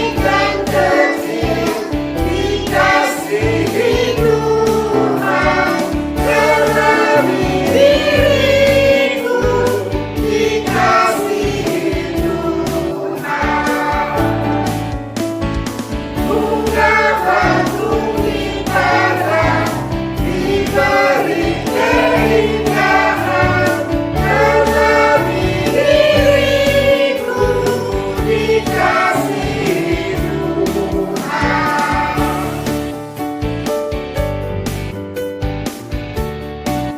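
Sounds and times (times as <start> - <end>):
choir singing a hymn: 0.0 - 14.7, 16.2 - 33.0.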